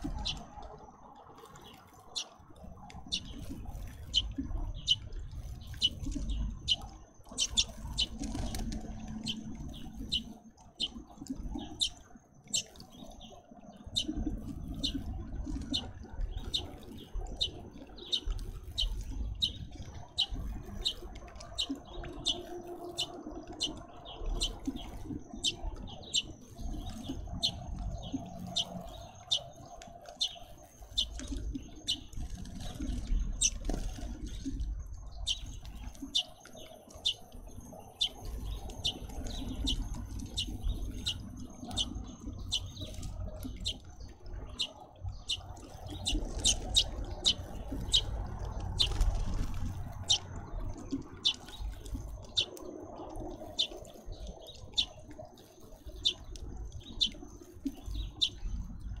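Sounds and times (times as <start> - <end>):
low background rumble: 0.0 - 59.0
small birds chirping: 0.0 - 59.0.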